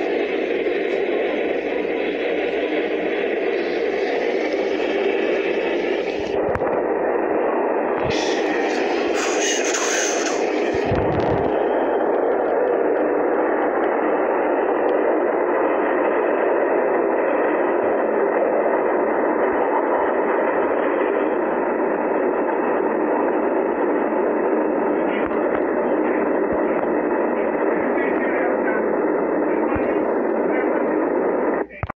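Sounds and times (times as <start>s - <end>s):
subway train rushing past: 0.0s - 31.6s.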